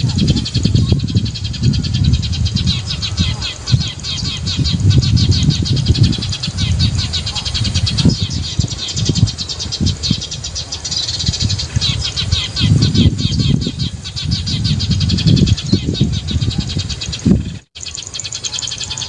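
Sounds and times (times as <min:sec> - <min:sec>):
songbirds chirping rapidly: 0:00.0 - 0:19.0.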